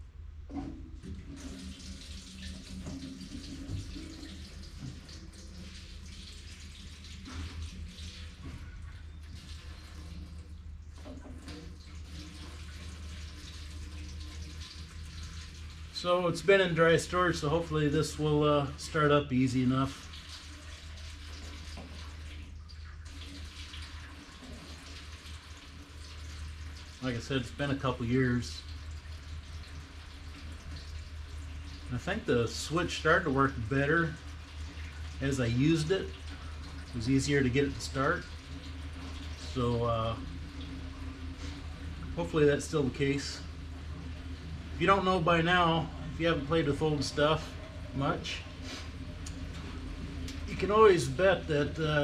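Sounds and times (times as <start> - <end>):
constant low hum: 0.0 - 52.0
fuel gurgling into a tank: 0.5 - 52.0
steady liquid hiss: 9.4 - 52.0.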